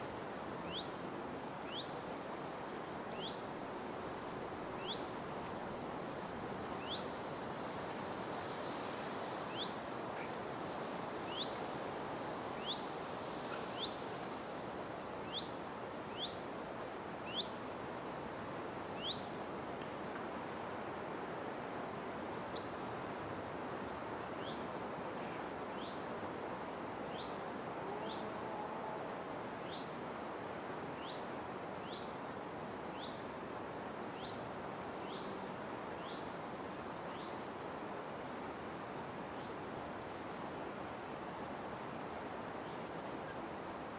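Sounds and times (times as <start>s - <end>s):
outdoor background noise: 0.0s - 43.9s.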